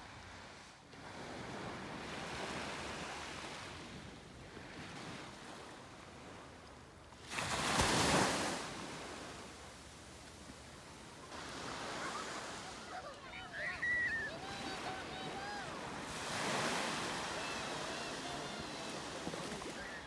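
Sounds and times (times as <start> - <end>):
sea waves breaking on beach: 0.0 - 6.6, 7.2 - 20.0.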